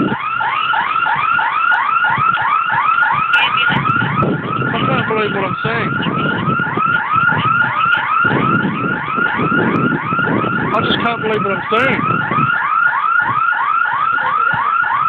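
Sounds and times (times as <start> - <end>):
warbling electronic alarm: 0.0 - 15.0.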